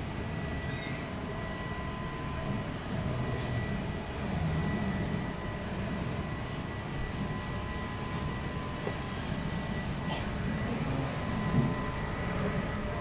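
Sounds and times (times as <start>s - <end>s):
faint steady whine: 0.0s - 13.0s
train coach rumbling: 0.0s - 13.0s.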